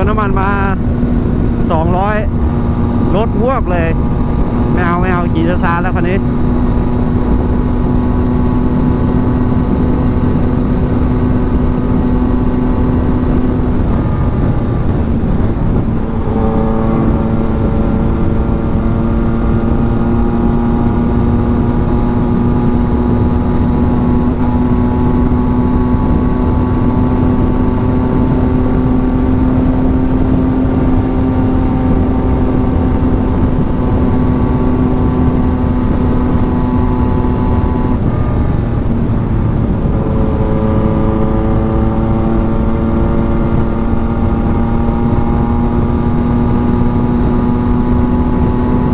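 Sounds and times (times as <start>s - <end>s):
motorcycle engine at high speed: 0.0s - 48.9s
wind rush: 0.0s - 48.9s.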